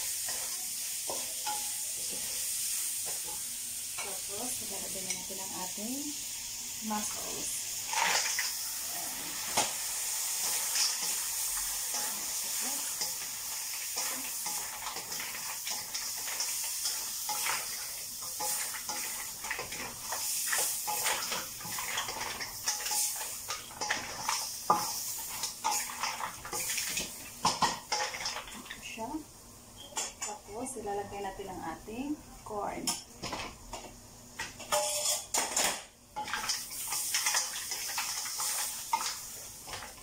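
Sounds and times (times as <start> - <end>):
seafood sizzling in a wok: 0.0 - 40.0.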